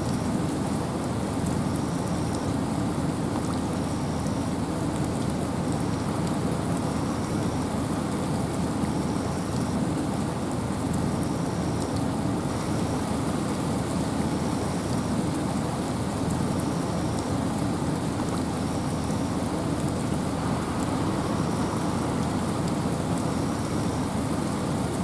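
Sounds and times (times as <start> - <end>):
faint raindrop ticks: 0.0 - 25.0
wind and rain hiss: 0.0 - 25.0.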